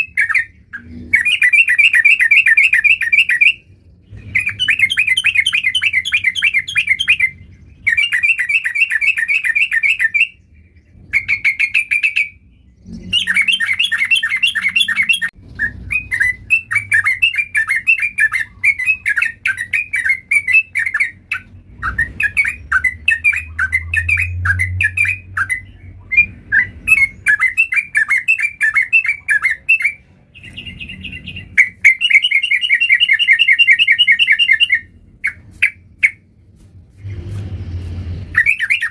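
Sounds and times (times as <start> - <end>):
bulbul chattering song: 0.0 - 36.3, 38.3 - 38.9.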